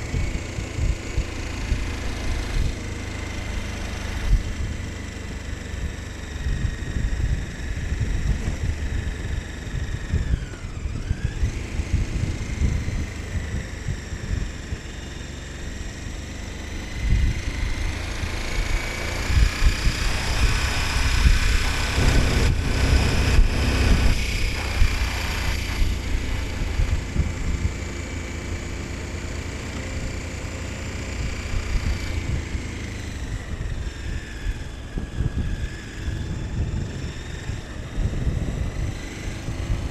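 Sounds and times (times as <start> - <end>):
wind buffeting microphone: 0.0 - 30.4, 31.0 - 39.9
motorcycle engine accelerating: 0.0 - 39.9.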